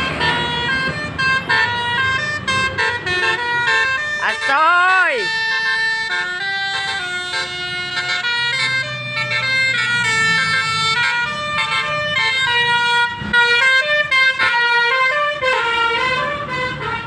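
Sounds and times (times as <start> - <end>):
musical bus horn melody: 0.0 - 17.0.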